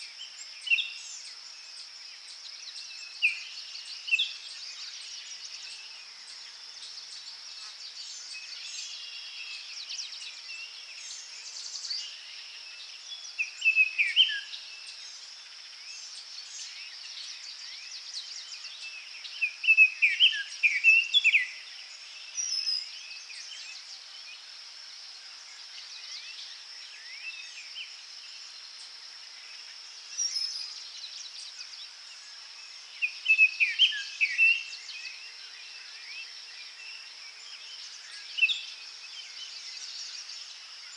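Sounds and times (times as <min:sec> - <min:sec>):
bird singing: 0:00.0 - 0:24.4, 0:25.4 - 0:40.9.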